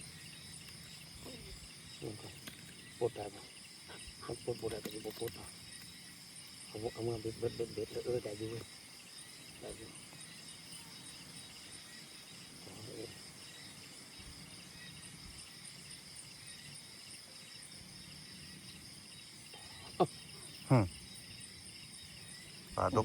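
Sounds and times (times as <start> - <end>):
crickets and insects trilling: 0.0 - 23.0.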